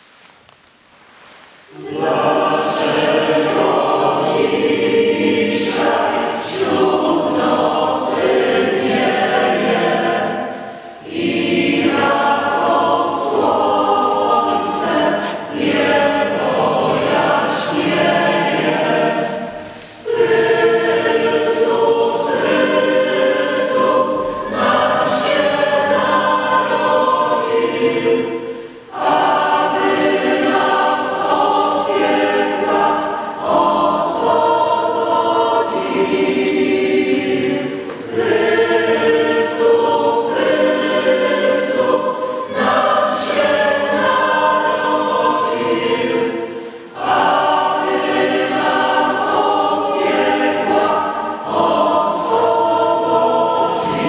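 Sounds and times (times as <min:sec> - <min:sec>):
mixed choir singing: 0:01.7 - 0:54.0.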